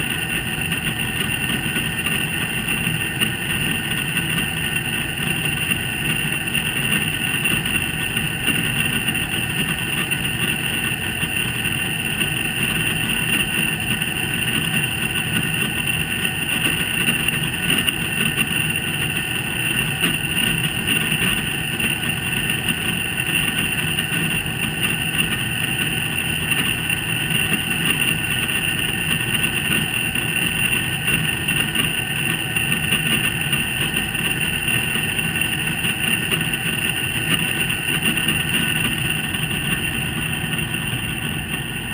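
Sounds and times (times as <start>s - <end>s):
high-pitched metallic noise: 0.0s - 41.9s.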